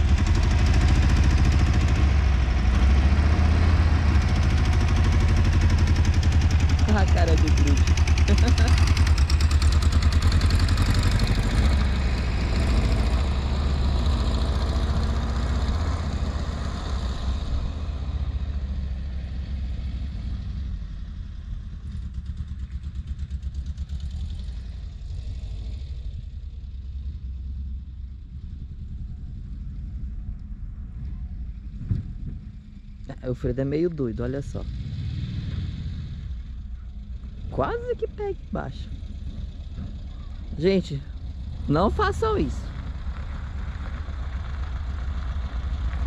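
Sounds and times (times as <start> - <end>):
car engine running: 0.0 - 46.0.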